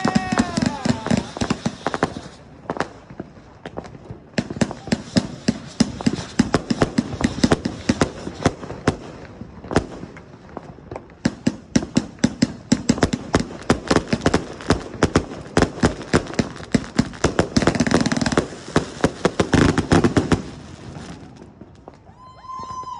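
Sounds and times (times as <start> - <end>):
fireworks launching and bursting: 0.0 - 22.9.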